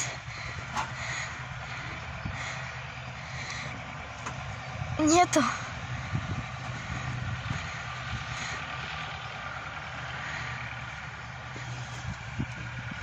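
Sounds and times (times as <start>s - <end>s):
outdoor background noise: 0.0s - 13.0s
vehicle engine idling: 0.0s - 13.0s.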